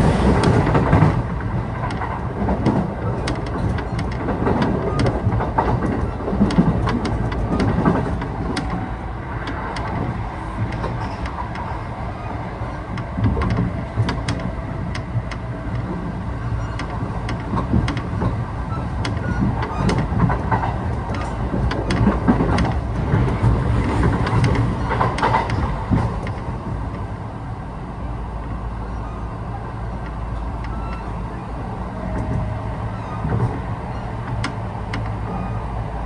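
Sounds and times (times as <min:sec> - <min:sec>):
train running rumble: 0:00.0 - 0:36.0
wheels clicking over rail joints: 0:00.0 - 0:36.0.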